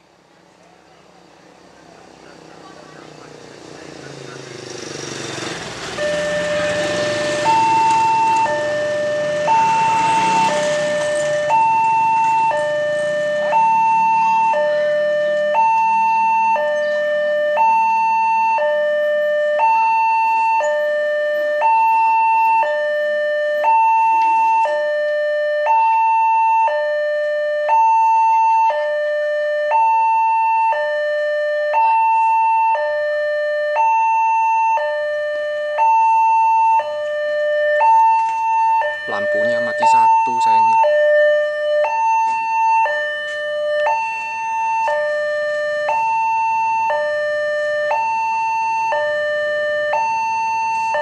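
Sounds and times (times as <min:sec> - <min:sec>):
two-tone warning siren: 0:02.0 - 0:51.0.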